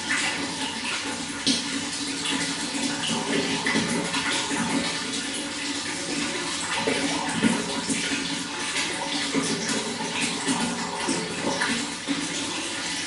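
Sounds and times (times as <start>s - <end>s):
running water rushing: 0.0s - 13.0s
small water splashes: 0.0s - 13.0s.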